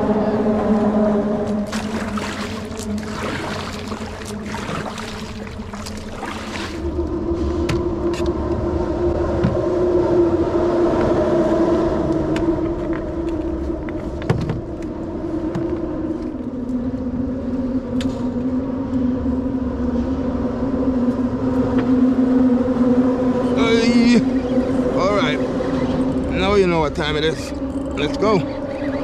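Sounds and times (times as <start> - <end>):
low rumble: 0.0 - 23.5
engine drone: 0.0 - 29.0.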